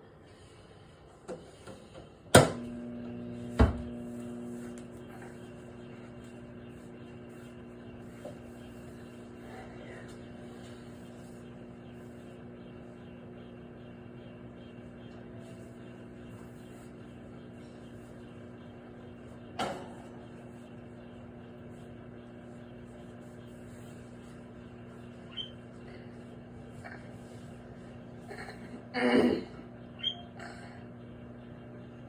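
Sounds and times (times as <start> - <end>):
microwave oven humming: 0.0 - 32.0.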